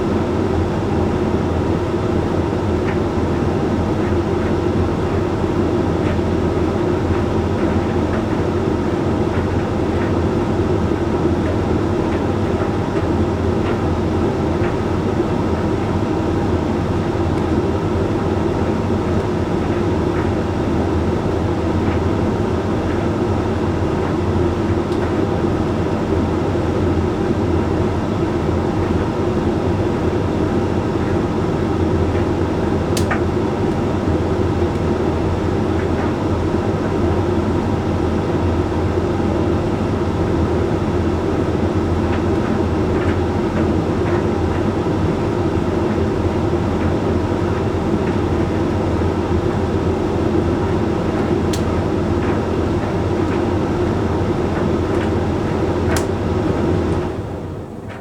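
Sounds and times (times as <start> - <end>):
tumble dryer humming: 6.2 - 58.0.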